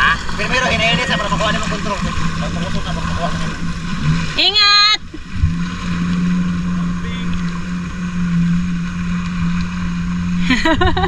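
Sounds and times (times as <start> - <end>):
jet ski engine running: 0.0 - 11.0
water and wind noise: 0.0 - 11.0.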